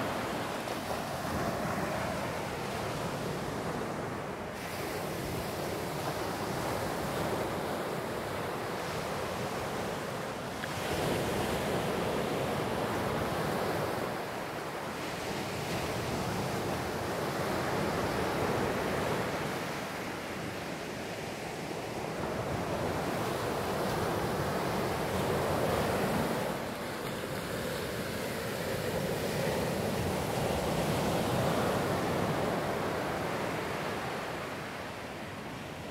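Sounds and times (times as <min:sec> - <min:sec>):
waves breaking on sand: 0:00.0 - 0:35.9.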